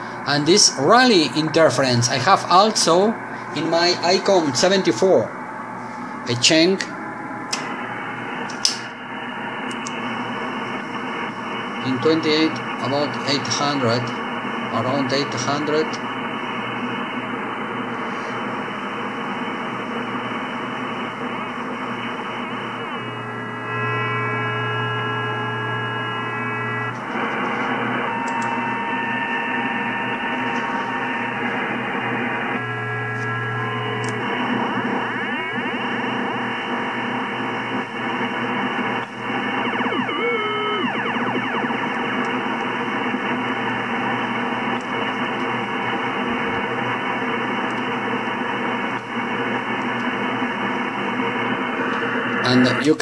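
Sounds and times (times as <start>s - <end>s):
radio interference hiss: 0.0s - 7.0s, 7.6s - 53.0s.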